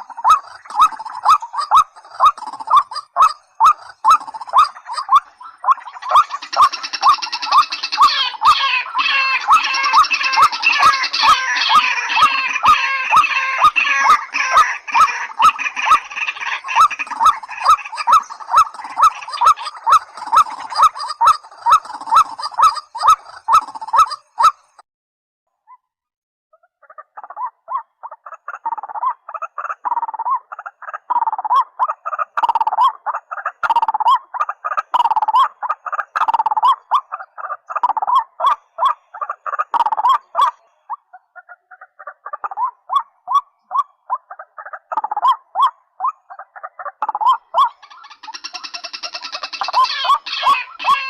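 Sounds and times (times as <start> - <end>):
birds croaking calls: 0.0 - 24.8, 26.6 - 51.0.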